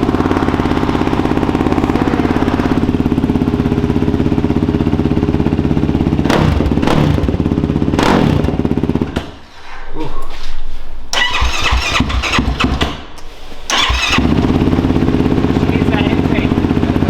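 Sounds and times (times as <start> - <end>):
engine throttle blips: 0.0 - 9.2, 11.1 - 17.0
quad engine idling: 0.0 - 9.2, 11.2 - 12.8, 13.7 - 17.0.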